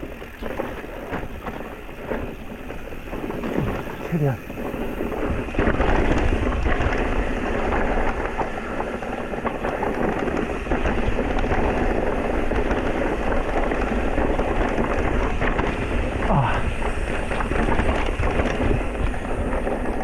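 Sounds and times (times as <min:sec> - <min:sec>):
bike clicks and rattles: 0:00.0 - 0:20.0
tyres rumbling on trail: 0:00.0 - 0:20.0.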